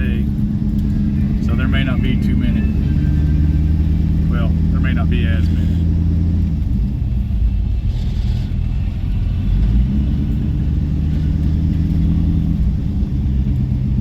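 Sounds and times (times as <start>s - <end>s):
vehicle engine low hum: 0.0s - 14.0s.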